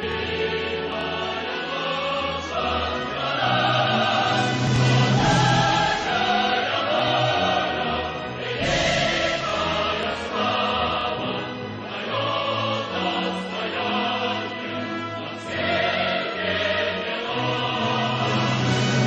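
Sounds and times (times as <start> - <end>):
choir singing with orchestra: 0.0 - 19.0.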